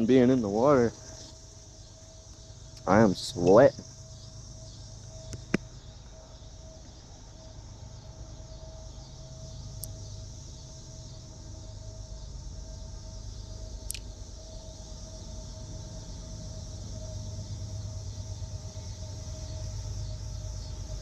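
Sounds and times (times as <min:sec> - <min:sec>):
faint steady tone: 0:00.0 - 0:21.0
insects hissing: 0:00.0 - 0:21.0.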